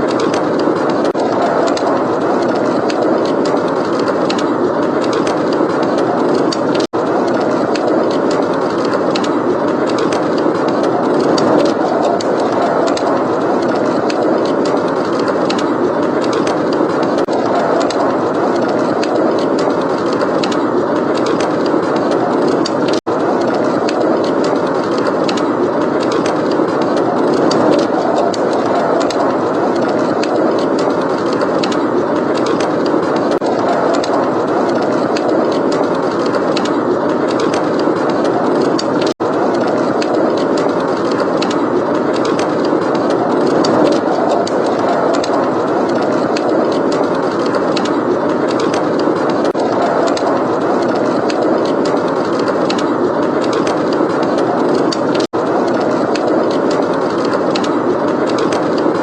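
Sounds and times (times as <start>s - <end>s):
blizzard wind rushing: 0.0s - 59.0s
wood fire crackling: 0.0s - 59.0s.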